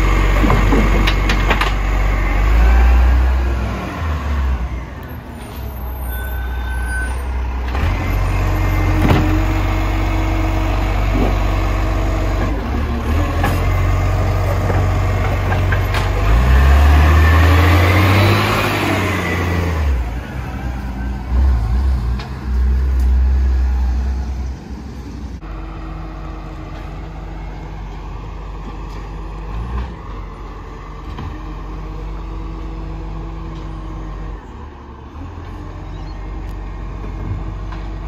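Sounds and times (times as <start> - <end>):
garbage truck diesel engine: 0.0 - 38.0.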